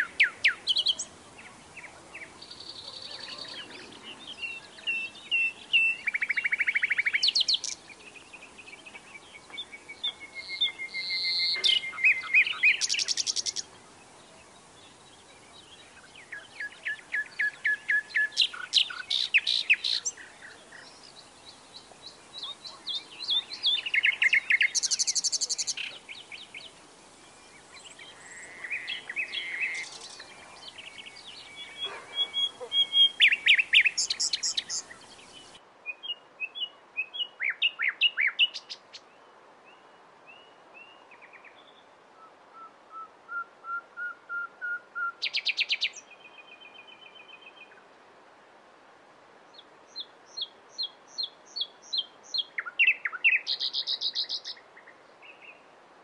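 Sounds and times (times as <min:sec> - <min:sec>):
songbird singing trills: 0:00.0 - 0:47.8, 0:49.5 - 0:55.6.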